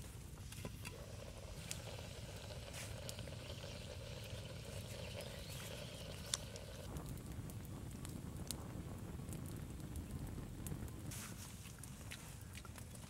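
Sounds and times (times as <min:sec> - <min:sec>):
low outdoor rumble: 0:00.0 - 0:13.0
wood fire crackling: 0:00.0 - 0:13.0.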